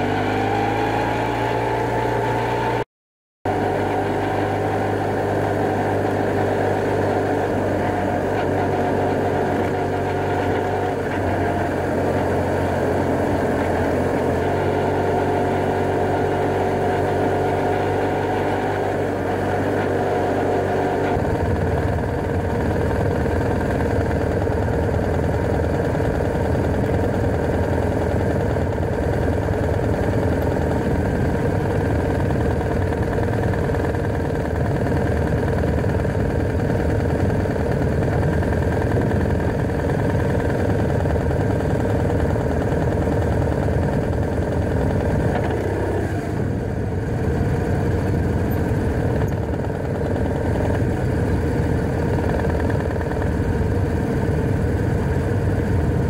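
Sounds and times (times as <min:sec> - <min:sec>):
motorcycle engine running: 0:00.0 - 0:02.8, 0:03.5 - 0:56.0.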